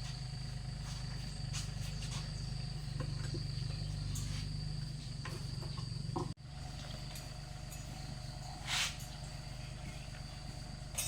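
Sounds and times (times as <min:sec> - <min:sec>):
low pulsing drone: 0:00.0 - 0:11.0.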